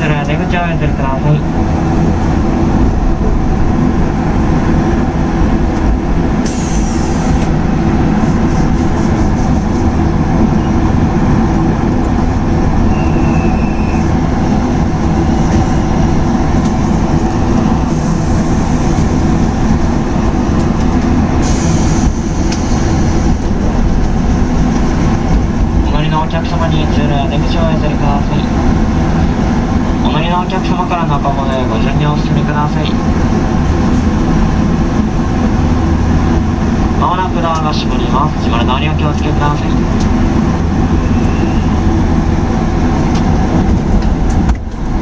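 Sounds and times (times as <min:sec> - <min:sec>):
electric train running on rails: 0:00.0 - 0:45.0.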